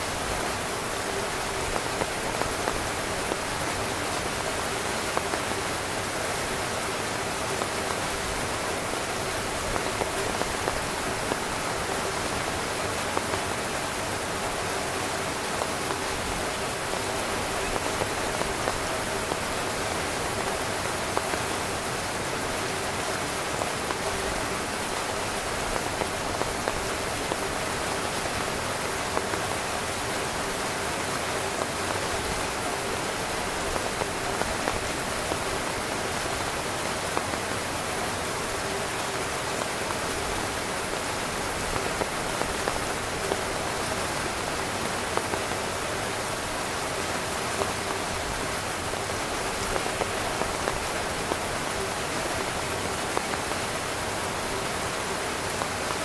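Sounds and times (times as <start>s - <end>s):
heavy rain on tent fabric: 0.0s - 56.0s.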